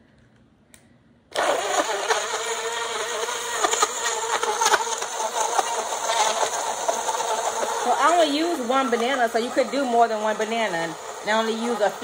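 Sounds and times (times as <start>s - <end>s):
blender motor whine: 1.3s - 12.0s.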